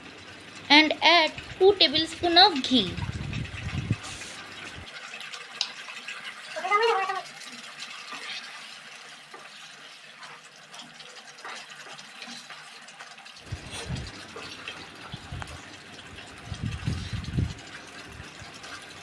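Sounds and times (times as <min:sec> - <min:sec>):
gravy crackling and bubbling in pan: 0:00.0 - 0:19.0.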